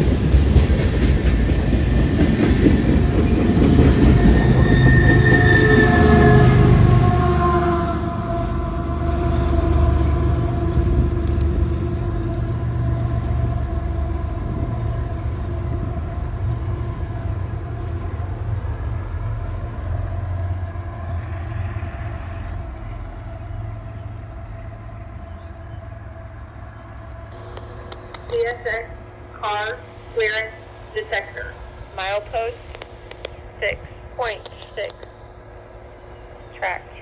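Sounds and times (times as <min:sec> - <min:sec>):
train engine and wheels rumbling: 0:00.0 - 0:37.0.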